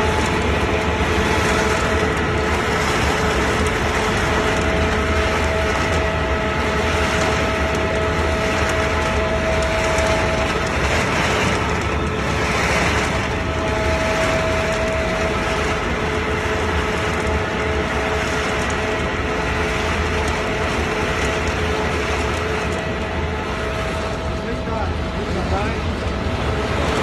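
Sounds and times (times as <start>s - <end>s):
held machine tones: 0.0s - 25.6s
production line machinery din: 0.0s - 27.0s.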